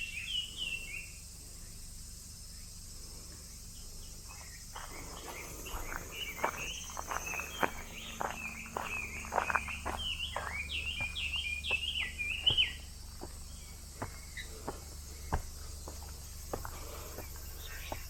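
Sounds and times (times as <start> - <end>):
bird chirping: 0.0 - 2.8, 3.4 - 18.0
cicadas droning: 0.0 - 18.0.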